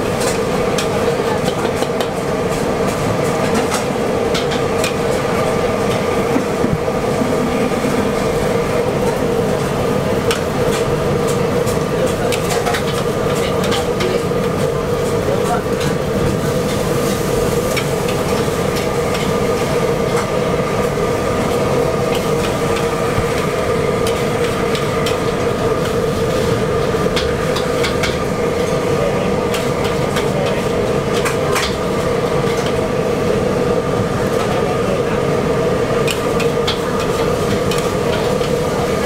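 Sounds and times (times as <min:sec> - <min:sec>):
stove roar: 0:00.0 - 0:39.0.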